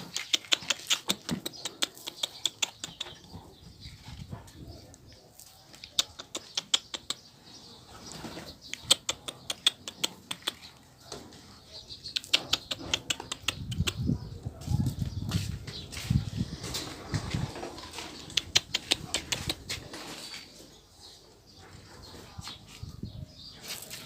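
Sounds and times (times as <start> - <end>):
pigeons clicking: 0.0 - 20.8.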